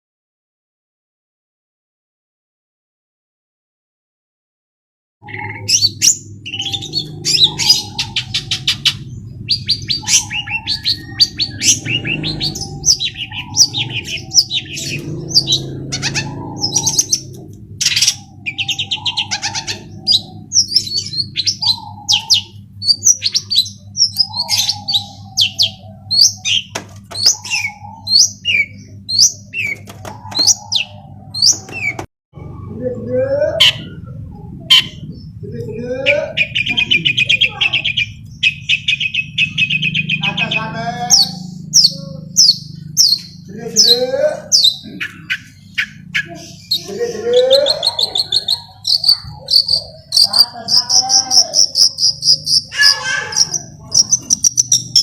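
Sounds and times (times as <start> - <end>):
bird singing chirps and trills: 5.2 - 55.0
steady low hum: 5.3 - 52.7.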